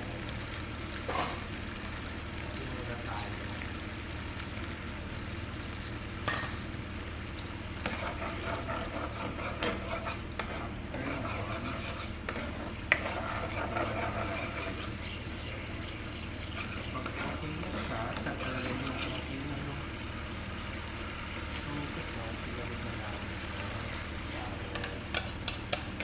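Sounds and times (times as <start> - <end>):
sauce sizzling in a frying pan: 0.0 - 26.0
steady low hum: 0.0 - 26.0.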